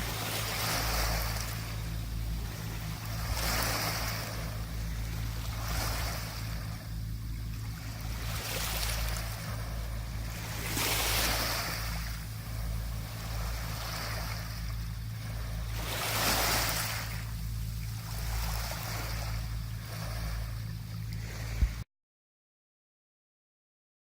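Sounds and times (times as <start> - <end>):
small waves washing onto beach: 0.0 - 21.8
steady low hum: 0.0 - 21.9.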